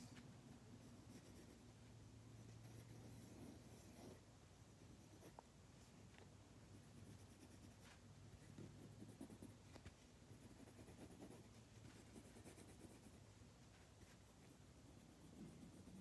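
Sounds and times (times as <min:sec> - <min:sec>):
pencil scratching on paper: 0:00.8 - 0:05.4, 0:06.6 - 0:16.0.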